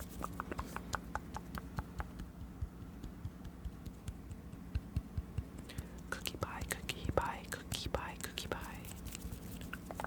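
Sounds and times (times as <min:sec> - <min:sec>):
wet tongue and lip clicks: 0:00.1 - 0:08.5.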